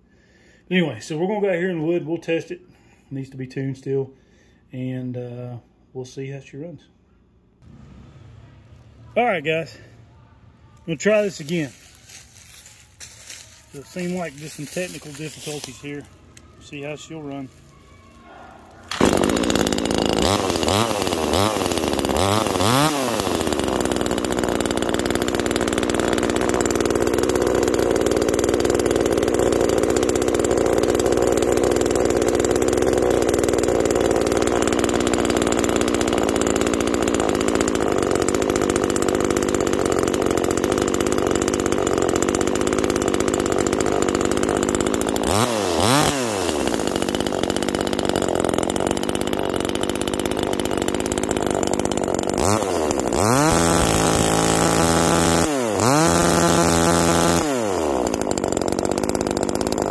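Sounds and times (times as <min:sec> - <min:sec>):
chainsaw revving and idling: 0:07.6 - 0:10.0, 0:10.8 - 0:59.9.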